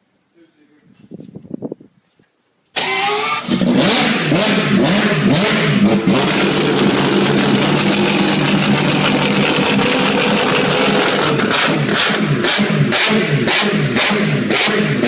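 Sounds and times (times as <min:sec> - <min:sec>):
rotary engine revving: 0:02.8 - 0:15.0.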